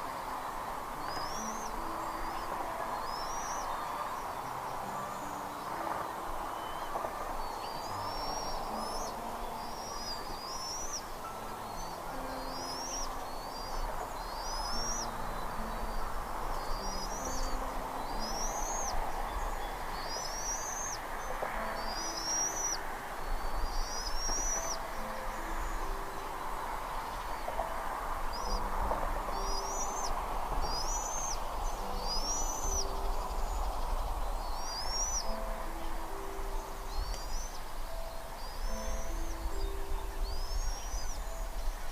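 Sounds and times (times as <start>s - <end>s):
steady background rush: 0.0s - 41.9s.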